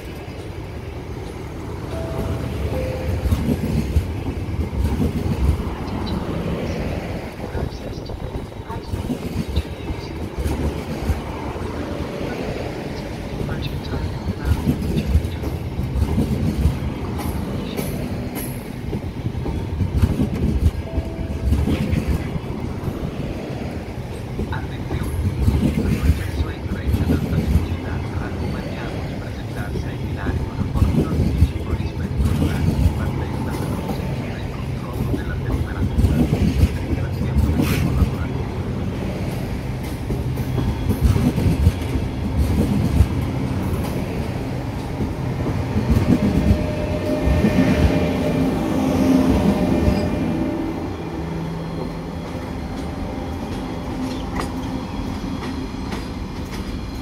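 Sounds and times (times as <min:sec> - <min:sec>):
train carriages knocking: 0:00.0 - 0:57.0
train wheels rumbling on rails: 0:00.0 - 0:57.0.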